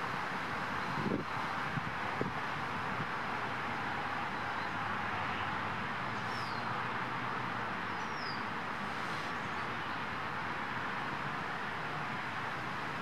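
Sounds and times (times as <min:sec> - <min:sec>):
steady outdoor background noise: 0:00.0 - 0:13.0.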